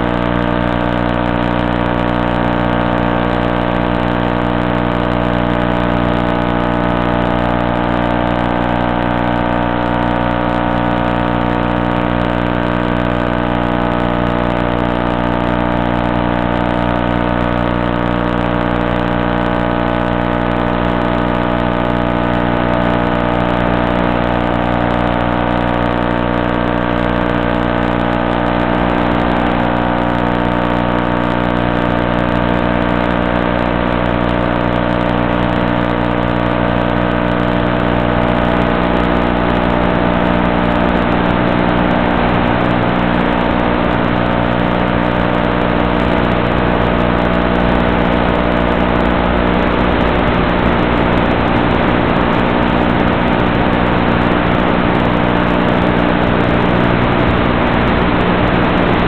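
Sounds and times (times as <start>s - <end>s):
electric motor and propeller hum: 0.0s - 59.0s.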